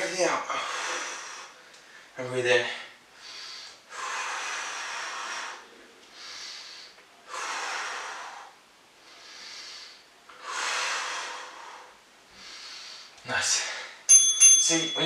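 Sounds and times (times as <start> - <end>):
man breathing hard: 0.5 - 2.2, 3.1 - 14.1.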